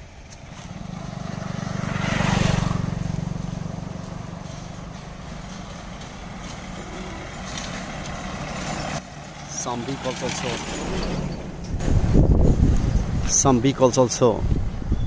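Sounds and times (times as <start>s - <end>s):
vehicle engine passing by: 0.0s - 14.9s.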